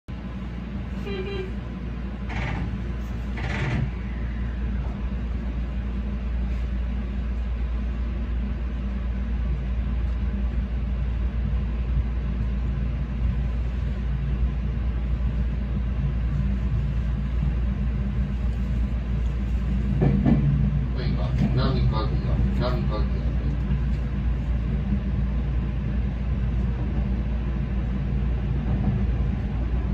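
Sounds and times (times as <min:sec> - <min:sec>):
low motor hum: 0:00.1 - 0:29.9
train wheels rumbling on rails: 0:00.1 - 0:29.9.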